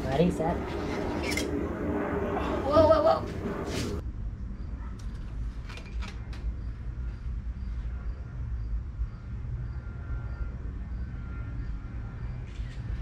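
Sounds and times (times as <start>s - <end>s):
steady low rumble: 0.0s - 5.6s, 6.2s - 13.0s.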